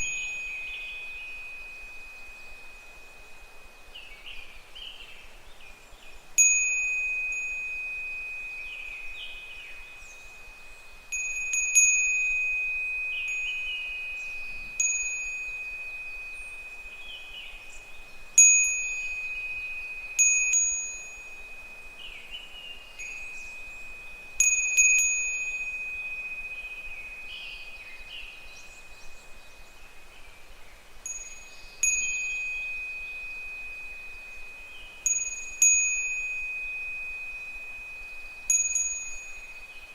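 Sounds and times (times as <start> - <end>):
wind chime ringing: 0.0 - 4.7, 6.4 - 29.7, 31.0 - 39.9
cicadas calling faintly: 0.0 - 39.9.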